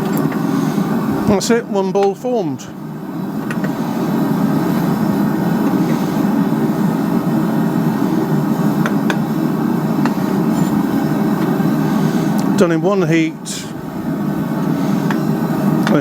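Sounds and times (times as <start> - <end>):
forge roaring: 0.0 - 16.0.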